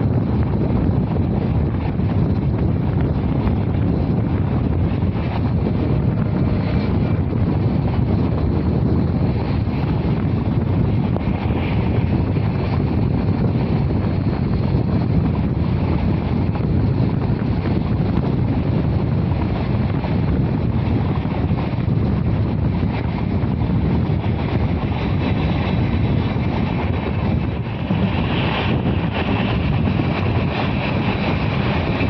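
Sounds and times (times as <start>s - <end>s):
train running rumble: 0.0s - 32.0s
wind buffeting microphone: 0.0s - 32.0s.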